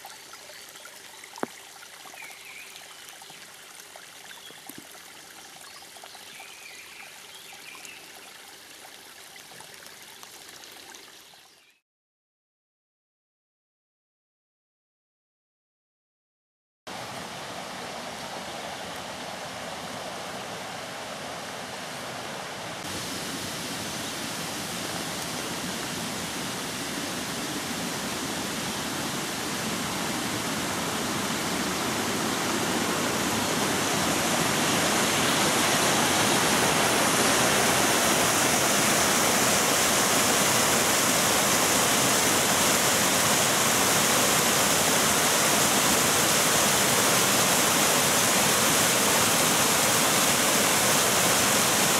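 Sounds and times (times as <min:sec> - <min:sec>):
stream rushing over rocks: 0:00.0 - 0:10.8, 0:16.9 - 0:51.9.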